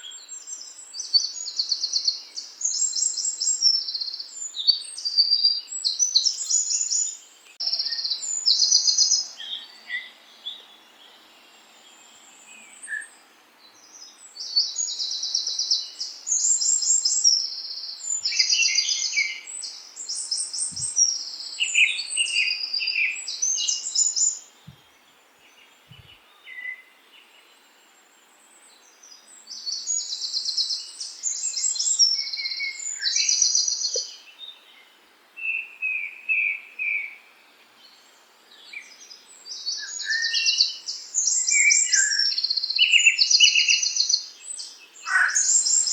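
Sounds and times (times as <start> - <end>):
songbirds chirping and trilling: 0.0 - 45.9.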